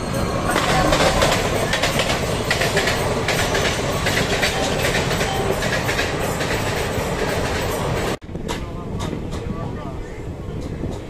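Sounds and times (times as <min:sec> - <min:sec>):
train rushing roar: 0:00.0 - 0:11.0
wheels clattering over rails: 0:00.2 - 0:09.6.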